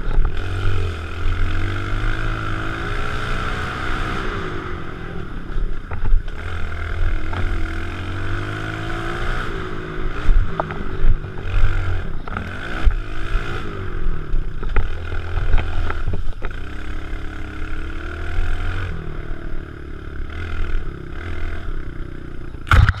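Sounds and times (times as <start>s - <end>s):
knocks and rattles of bike: 0.0s - 23.0s
motorbike engine revving: 0.0s - 23.0s.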